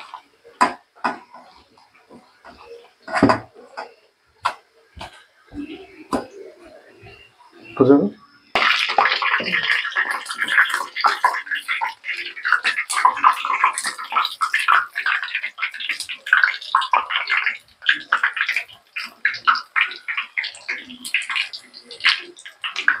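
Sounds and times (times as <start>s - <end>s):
fritters sizzling in hot oil: 0.0s - 6.3s, 8.4s - 23.0s.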